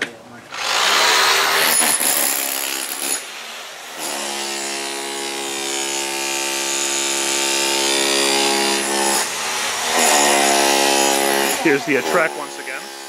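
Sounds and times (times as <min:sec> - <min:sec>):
electric power tool whining: 0:00.5 - 0:03.3, 0:03.9 - 0:13.0.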